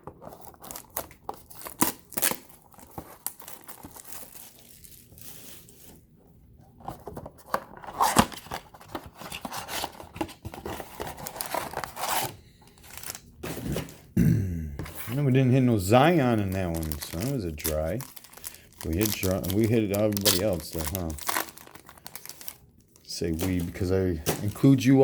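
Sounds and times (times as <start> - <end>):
packaging tearing and crinkling: 0.2 - 6.0, 7.0 - 14.1, 15.8 - 25.0.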